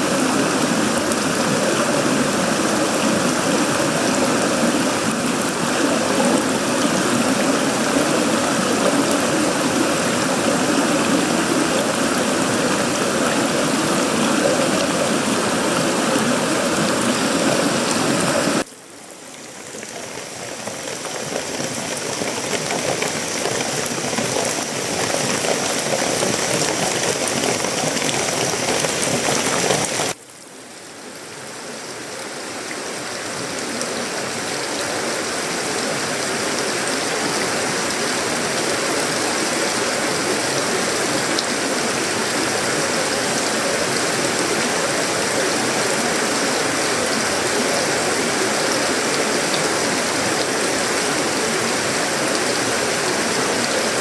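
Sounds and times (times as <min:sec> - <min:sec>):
heavy rain on metal roof: 0:00.0 - 0:30.4, 0:32.3 - 0:54.0.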